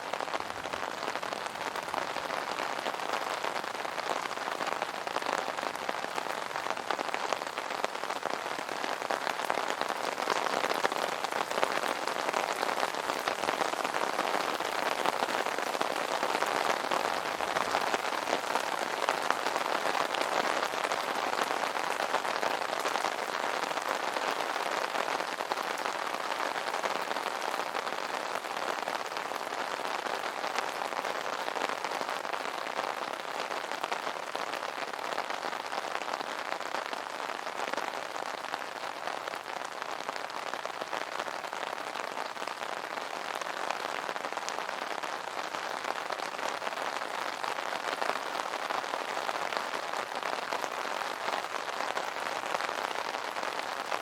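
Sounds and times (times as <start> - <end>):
rain drumming on an umbrella: 0.0 - 54.0.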